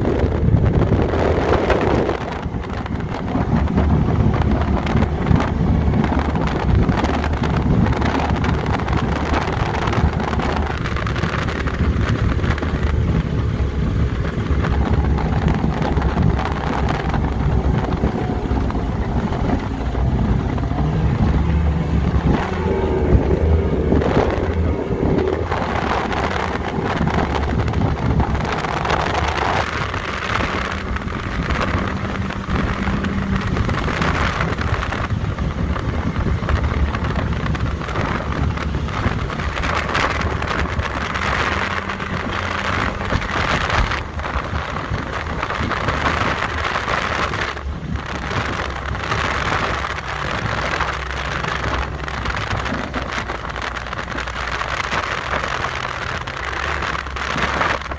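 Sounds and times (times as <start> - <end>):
motorboat engine drone: 0.0 - 57.9
water noise: 0.0 - 57.9
wind on microphone: 0.0 - 57.9.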